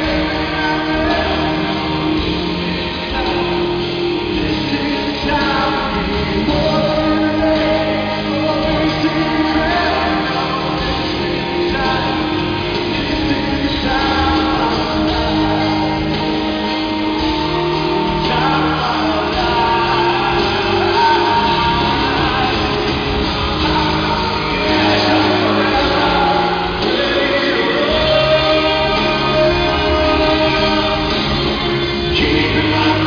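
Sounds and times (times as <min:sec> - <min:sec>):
live rock band playing: 0:00.0 - 0:33.0
man singing: 0:00.0 - 0:33.0.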